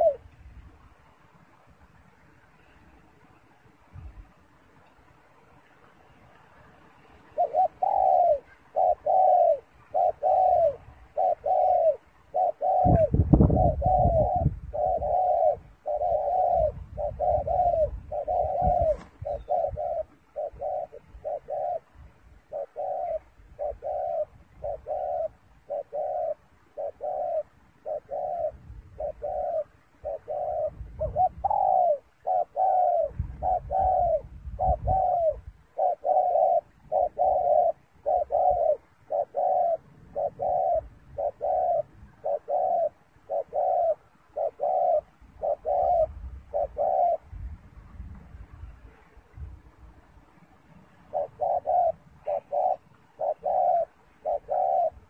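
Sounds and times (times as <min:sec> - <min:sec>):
dove cooing rapidly: 0:00.0 - 0:00.3, 0:07.2 - 0:47.5, 0:51.0 - 0:55.0.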